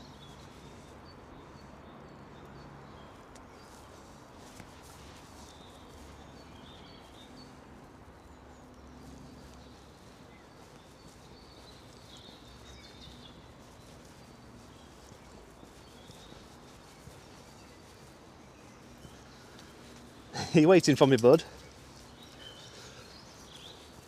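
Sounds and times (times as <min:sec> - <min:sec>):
small birds chirping: 0:00.0 - 0:24.0
footsteps on path: 0:02.4 - 0:24.0.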